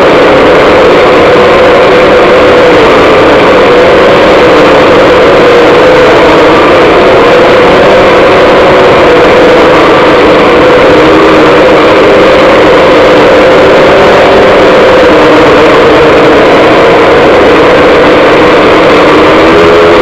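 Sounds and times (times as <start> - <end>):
drone motors and propellers: 0.0 - 20.0.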